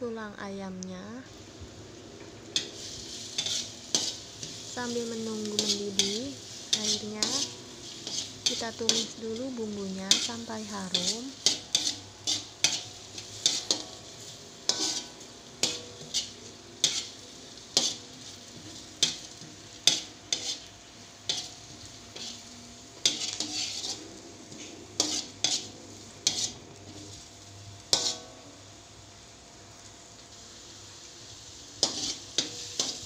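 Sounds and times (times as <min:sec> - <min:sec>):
food sizzling: 0:00.0 - 0:33.0
metal spatula scraping a wok: 0:02.4 - 0:28.4, 0:31.7 - 0:33.0.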